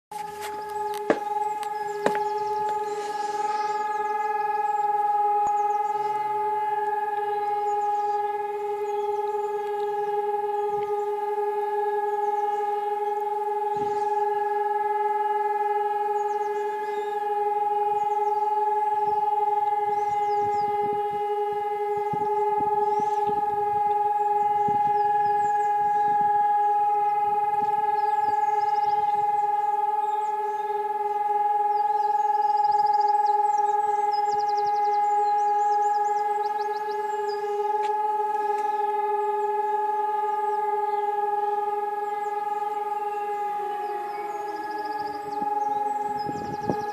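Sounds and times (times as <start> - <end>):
steady siren-like tone: 0.1 - 46.9.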